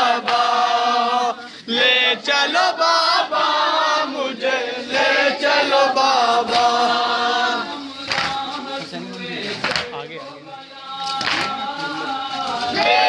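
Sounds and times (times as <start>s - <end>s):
men chanting a mourning lament: 0.0s - 13.0s.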